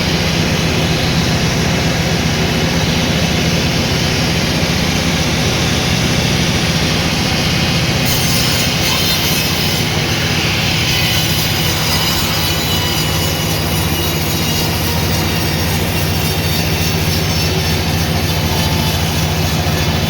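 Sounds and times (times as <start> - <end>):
sawmill saw running: 0.0 - 20.0.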